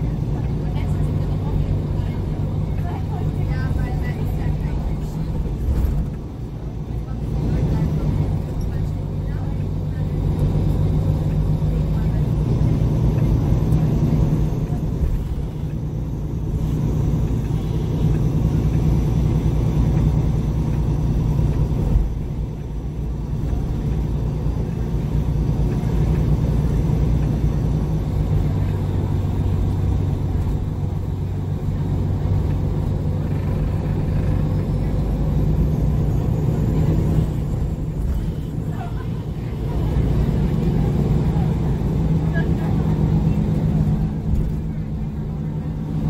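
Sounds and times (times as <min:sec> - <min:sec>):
bus diesel engine idling: 0:00.0 - 0:46.0.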